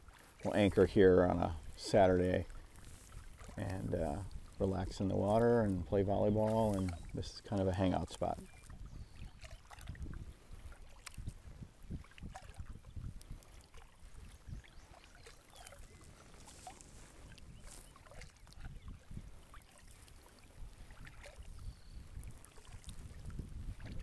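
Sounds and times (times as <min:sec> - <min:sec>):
kayak paddle strokes: 0:00.0 - 0:24.0
small splashes on hull: 0:00.0 - 0:24.0
water dripping off paddle: 0:00.0 - 0:24.0
wind rumble on microphone: 0:00.0 - 0:24.0.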